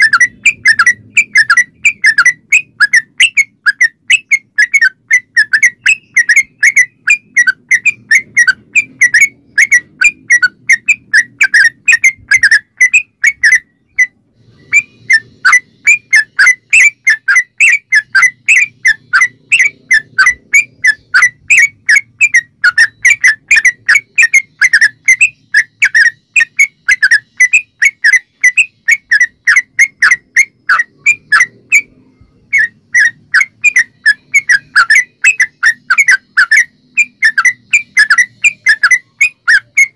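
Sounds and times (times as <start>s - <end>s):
bird whistled chirps: 0.0s - 39.9s.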